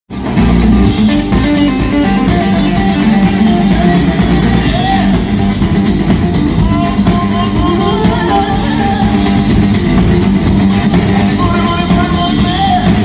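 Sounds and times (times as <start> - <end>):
drum kit: 0.1 - 13.0
electric guitars: 0.1 - 13.0.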